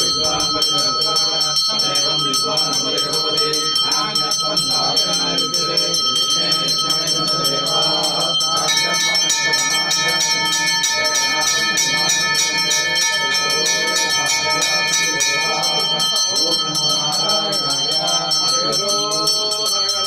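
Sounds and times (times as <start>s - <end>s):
hand bell ringing rapidly: 0.0s - 20.0s.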